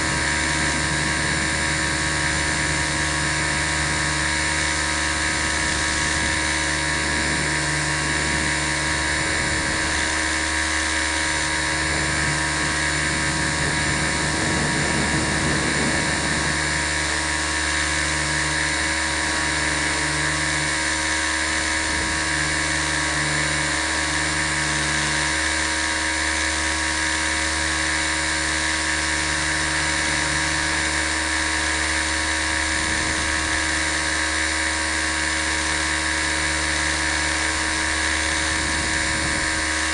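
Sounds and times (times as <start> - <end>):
model helicopter motor whine: 0.0 - 39.9.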